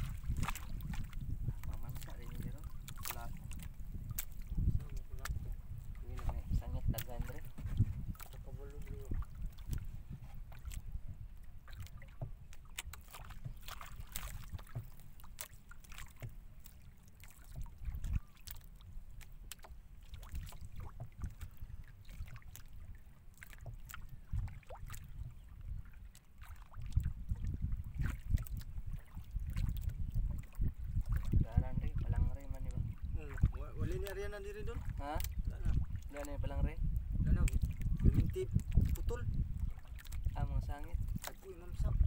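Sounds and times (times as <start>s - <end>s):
small waves slapping a boat hull: 0.0s - 42.0s
wind rumble on microphone: 0.0s - 42.0s.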